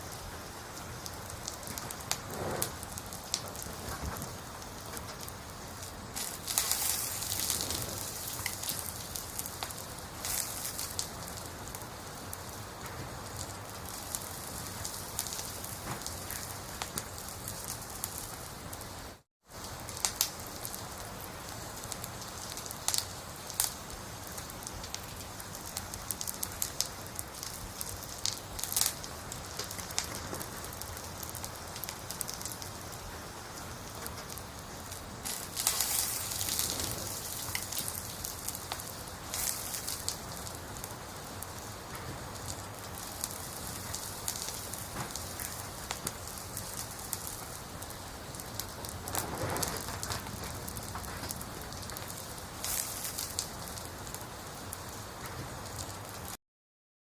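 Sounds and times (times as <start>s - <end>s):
campfire crackling and popping: 0.0s - 56.4s.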